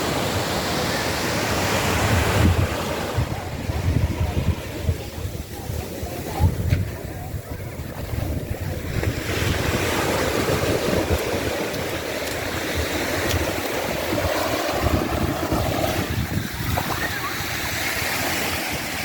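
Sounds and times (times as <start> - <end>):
ocean surf washing on shore: 0.0 - 19.0
wind buffeting microphone: 1.7 - 19.0.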